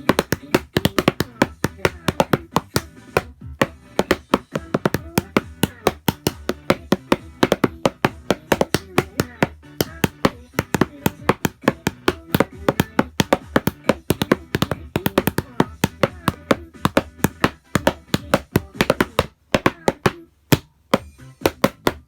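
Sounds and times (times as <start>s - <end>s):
backing track with vocal: 0.0s - 20.2s.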